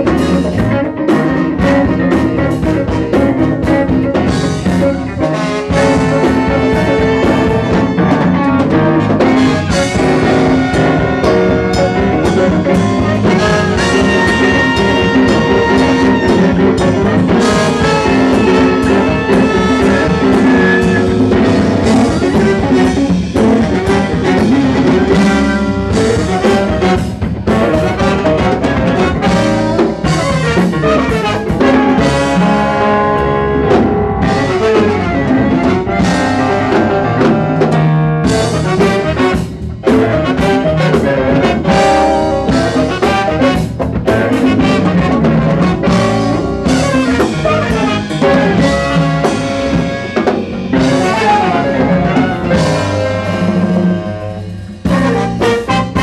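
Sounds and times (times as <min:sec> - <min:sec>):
brass section playing: 0:00.0 - 0:56.0
drum kit: 0:00.0 - 0:56.0.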